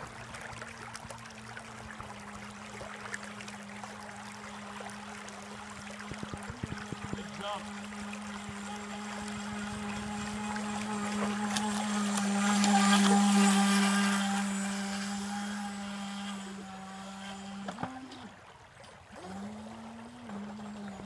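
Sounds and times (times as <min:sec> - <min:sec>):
rc boat electric motor whining: 0:00.0 - 0:21.0.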